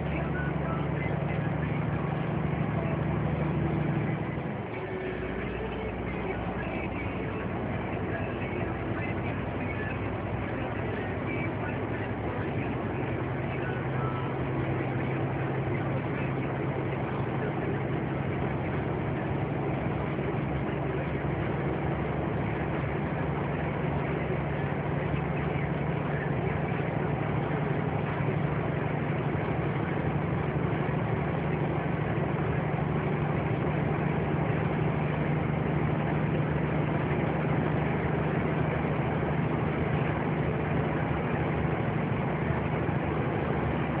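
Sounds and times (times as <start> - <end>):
lorry engine running: 0.0 - 44.0
tyre and road noise: 0.0 - 44.0.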